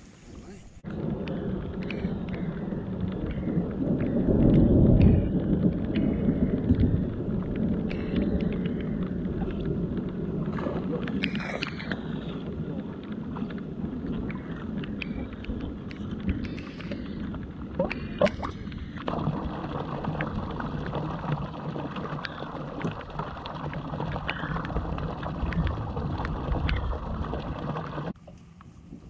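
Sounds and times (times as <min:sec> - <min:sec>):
rain falling: 0:00.0 - 0:28.2
low steady hum: 0:00.0 - 0:29.0
wind buffeting microphone: 0:00.8 - 0:28.2
sharp ticks and knocks: 0:00.9 - 0:28.7.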